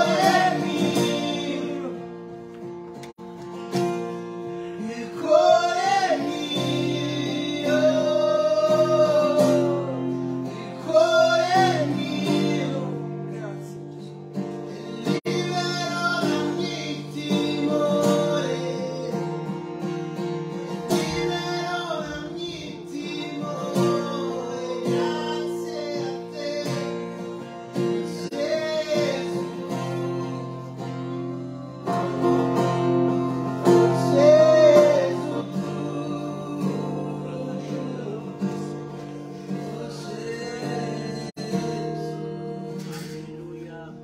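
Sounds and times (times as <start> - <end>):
man singing through pa system: 0.0 - 2.2, 4.6 - 13.8, 14.7 - 19.5, 20.9 - 44.0
strummed acoustic guitar: 0.0 - 44.0.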